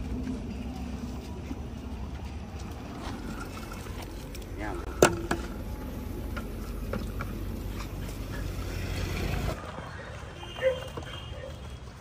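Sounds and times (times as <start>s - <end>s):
low rumbling noise: 0.0s - 9.8s.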